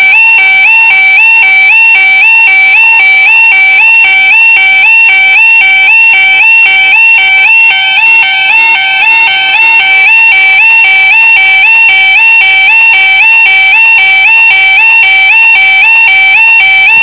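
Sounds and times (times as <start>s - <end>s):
level crossing alarm: 0.0s - 17.0s.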